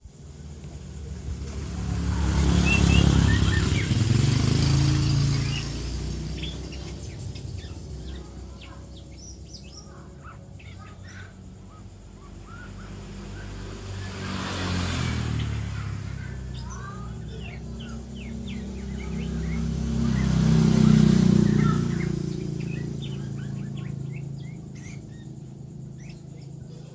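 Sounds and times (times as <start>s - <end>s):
motor vehicle passing: 0.0s - 26.9s
young songbird twittering: 0.1s - 26.9s.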